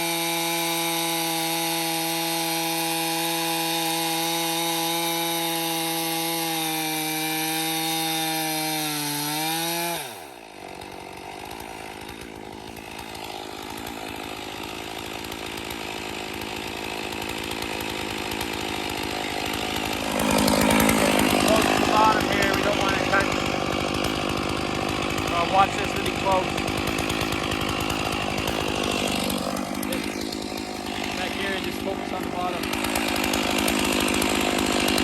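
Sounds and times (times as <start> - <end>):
chainsaw cutting at full throttle: 0.0 - 35.0
chainsaw idling: 0.0 - 35.0.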